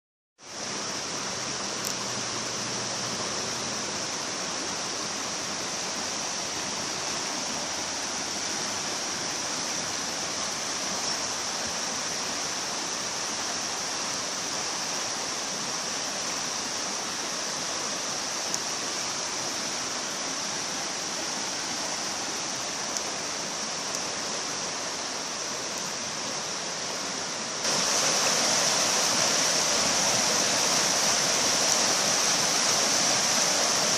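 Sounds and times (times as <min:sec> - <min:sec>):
river water rushing: 0:00.4 - 0:33.9.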